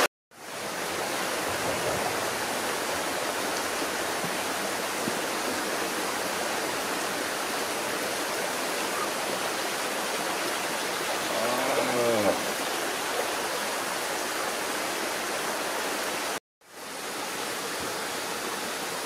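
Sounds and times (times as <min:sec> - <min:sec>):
rocky stream rushing: 0:00.0 - 0:19.0.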